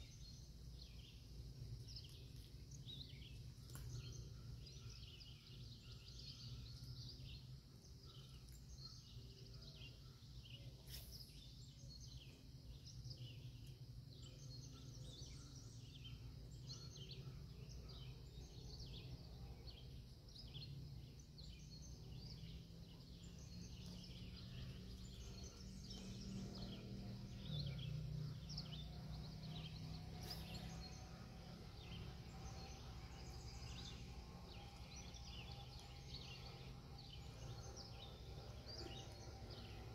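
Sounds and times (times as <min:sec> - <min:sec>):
birds chirping: 0:00.0 - 0:39.9
low steady rumble: 0:00.0 - 0:39.9.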